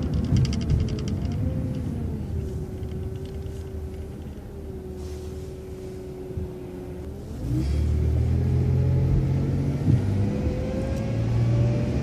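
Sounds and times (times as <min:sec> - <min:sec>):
bus engine accelerating: 0:00.0 - 0:12.0.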